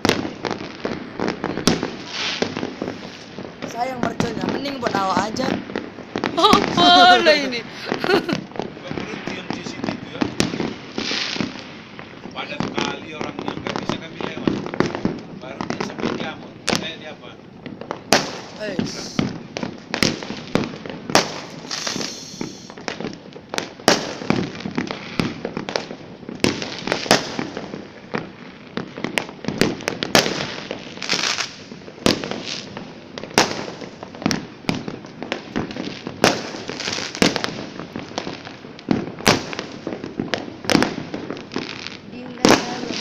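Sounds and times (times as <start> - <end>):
firecracker bangs: 0.0 - 43.0
fireworks crackling: 0.0 - 43.0.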